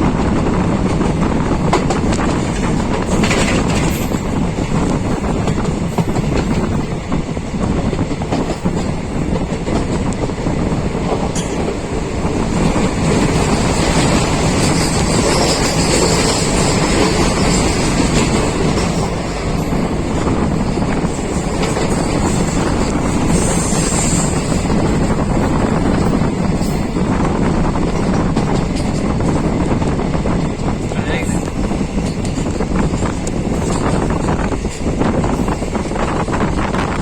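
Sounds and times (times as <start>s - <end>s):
train wheels clattering on rails: 0.0s - 37.0s.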